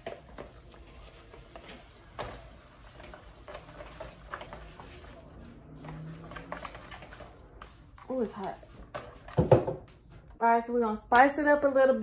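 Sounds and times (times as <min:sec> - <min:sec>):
utensil scraping plastic bowl: 0:00.0 - 0:09.7.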